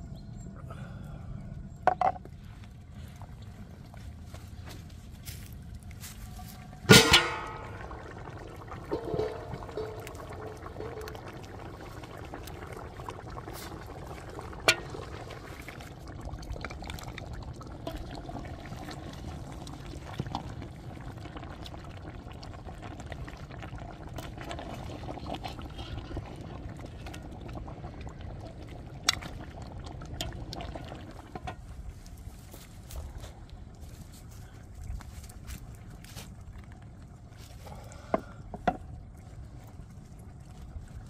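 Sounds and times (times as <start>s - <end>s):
liquid bubbling and pouring: 5.6s - 41.0s.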